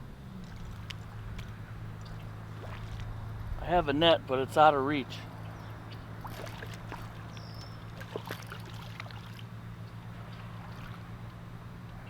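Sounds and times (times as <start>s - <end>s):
steady low hum: 0.0s - 12.0s
water splashing at bank: 0.3s - 11.5s.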